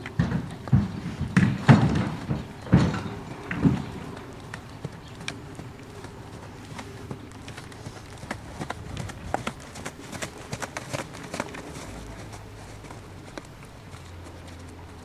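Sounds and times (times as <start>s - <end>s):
horse hooves trotting on sand: 0.0s - 15.0s.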